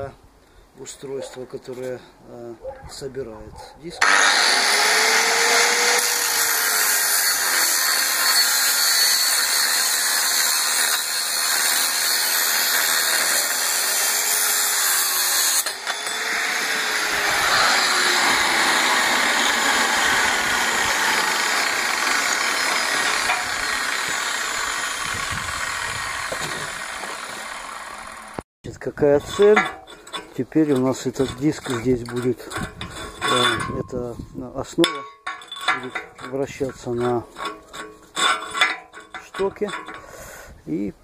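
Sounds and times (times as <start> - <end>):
angle grinder cutting metal: 4.0 - 28.4, 29.2 - 33.8, 34.8 - 40.2.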